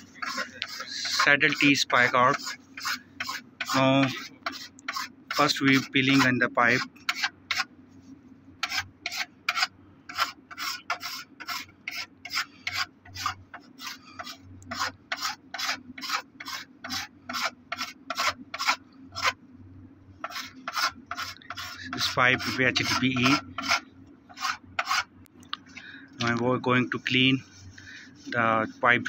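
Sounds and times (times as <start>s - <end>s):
hand scraper scraping plastic pipe: 0.0s - 7.7s, 8.6s - 19.4s, 20.2s - 25.1s.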